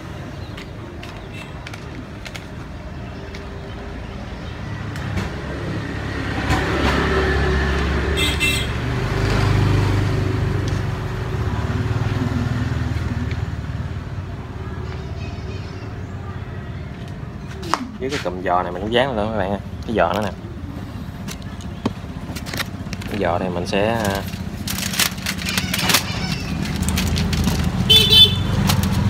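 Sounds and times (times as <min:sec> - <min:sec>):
vehicle engine rumble passing: 0:00.0 - 0:29.0.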